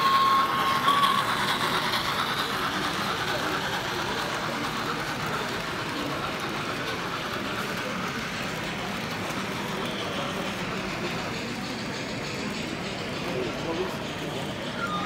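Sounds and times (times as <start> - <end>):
model train whirring and rumbling: 0.0 - 15.0.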